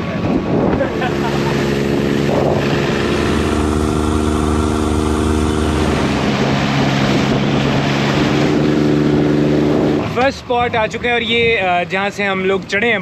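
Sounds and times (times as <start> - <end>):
water rushing past hull: 0.0 - 10.9
boat engine droning: 0.0 - 12.6.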